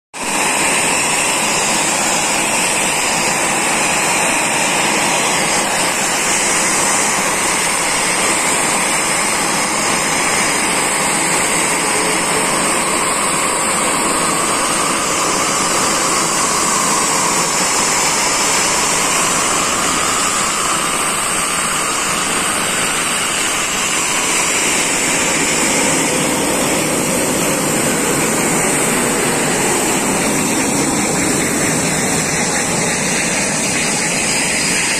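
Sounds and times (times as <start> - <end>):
jet engines running with high whine: 0.2 - 34.9.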